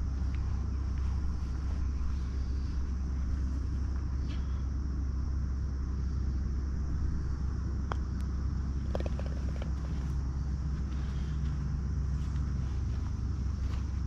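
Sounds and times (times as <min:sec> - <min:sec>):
golf cart rumbling: 0:00.0 - 0:14.0.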